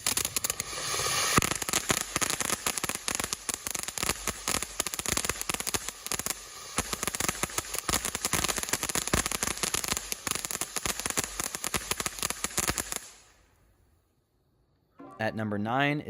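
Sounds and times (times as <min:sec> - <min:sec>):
firework hissing: 0:00.0 - 0:13.4
firework fountain crackling: 0:00.0 - 0:13.5.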